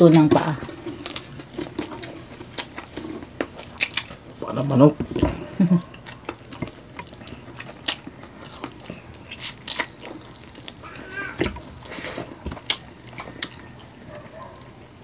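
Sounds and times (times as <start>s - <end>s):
chewing and lip-smacking: 0.0s - 4.4s, 5.2s - 15.0s.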